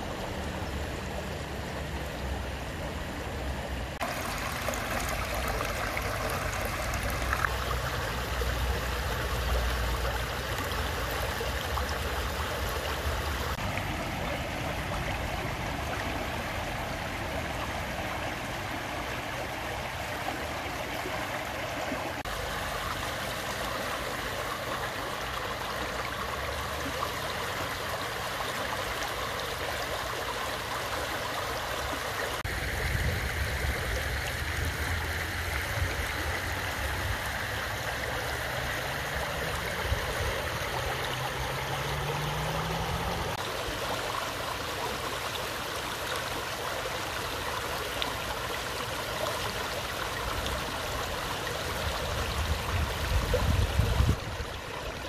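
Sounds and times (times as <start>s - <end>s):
stream rushing over stones: 3.9s - 55.0s.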